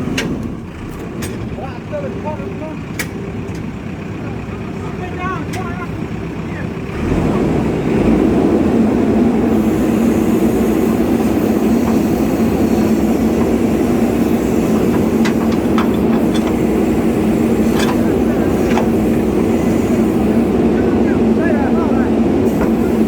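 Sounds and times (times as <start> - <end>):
heavy diesel engine revving: 0.0 - 23.0.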